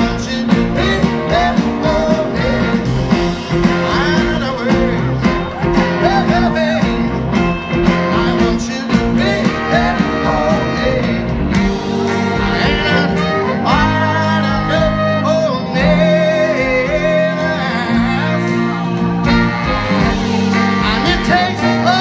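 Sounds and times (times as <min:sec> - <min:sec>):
person singing: 0:00.0 - 0:11.4, 0:12.2 - 0:22.0
live band playing: 0:00.0 - 0:22.0.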